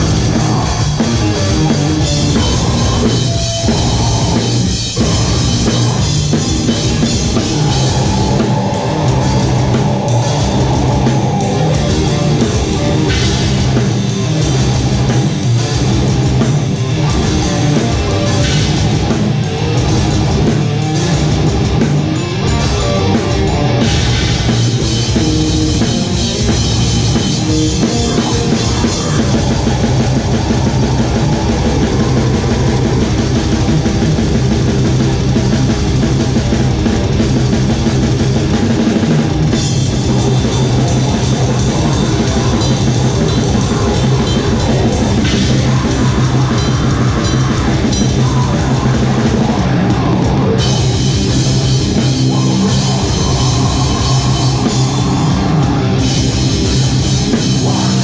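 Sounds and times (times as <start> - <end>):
drum kit with cymbals: 0.0 - 58.0
electric guitar: 0.0 - 58.0
heavy metal band playing: 0.0 - 58.0.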